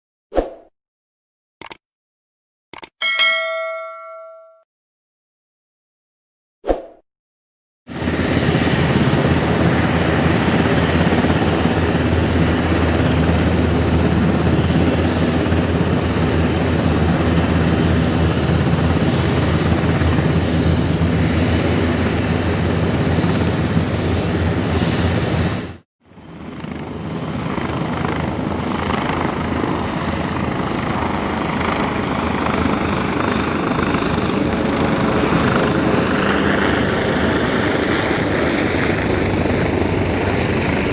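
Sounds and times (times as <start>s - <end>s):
helicopter rotor and engine: 7.9s - 40.9s.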